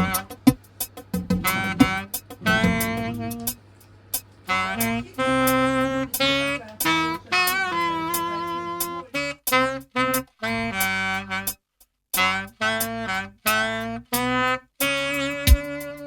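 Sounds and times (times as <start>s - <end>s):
saxophone melody: 0.0s - 0.6s, 1.2s - 3.6s, 4.4s - 11.6s, 12.2s - 16.0s.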